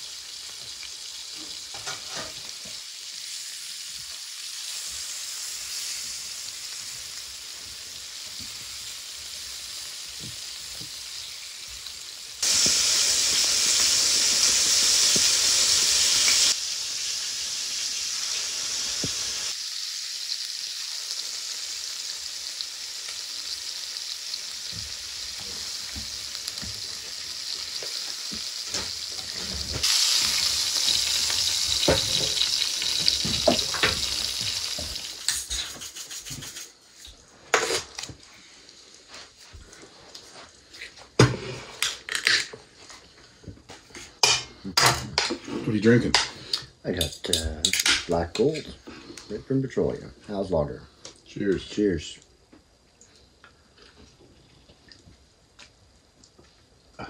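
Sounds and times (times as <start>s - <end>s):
meat and fish sizzling in pans: 0.0s - 49.4s.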